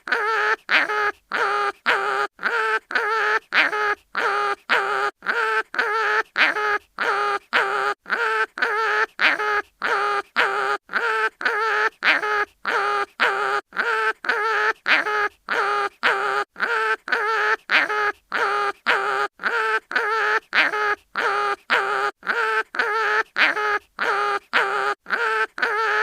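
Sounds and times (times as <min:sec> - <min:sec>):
cartoon animal crying in pain: 0:00.0 - 0:26.0.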